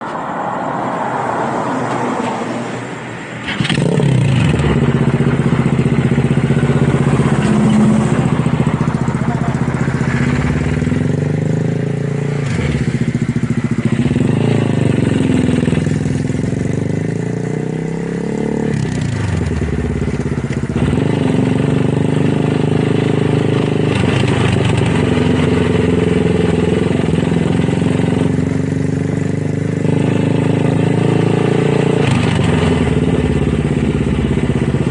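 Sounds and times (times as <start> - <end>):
motorcycle engine idling and revving: 2.7 - 34.9
motorcycle engine starting: 3.4 - 34.9.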